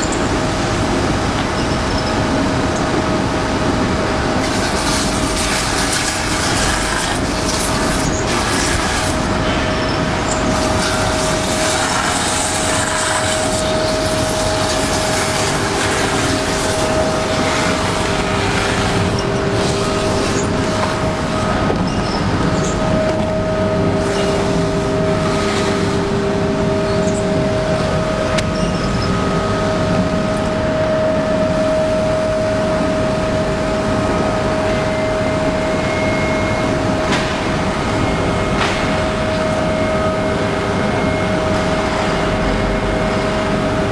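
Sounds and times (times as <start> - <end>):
grinding machine running: 0.0 - 43.9.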